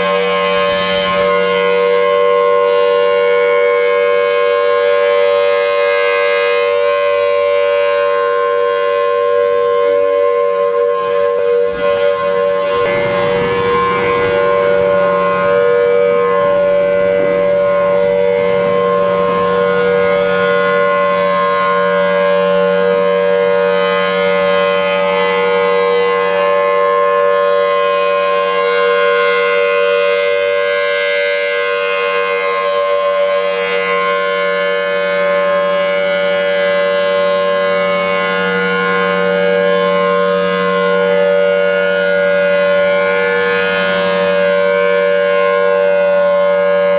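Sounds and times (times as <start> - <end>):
warning siren steady tone: 0.0 - 46.9.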